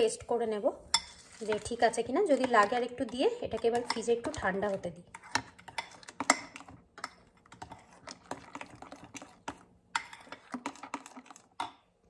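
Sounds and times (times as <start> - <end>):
spoon scraping glass bowl: 1.0 - 11.6.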